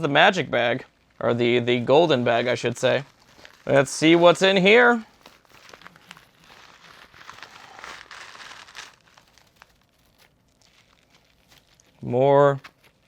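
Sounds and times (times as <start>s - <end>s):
paper filler rustling: 1.2s - 13.0s.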